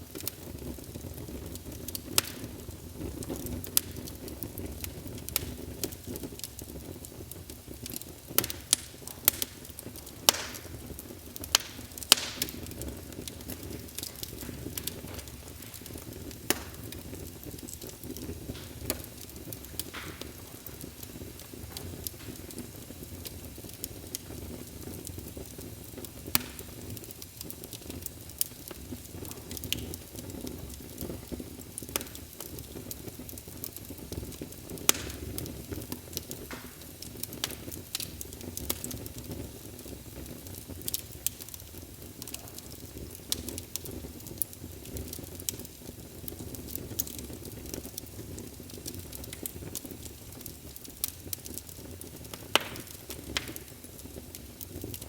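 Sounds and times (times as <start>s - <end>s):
fire crackles and pops: 0.0s - 55.0s
low rumble of flame: 0.0s - 55.0s.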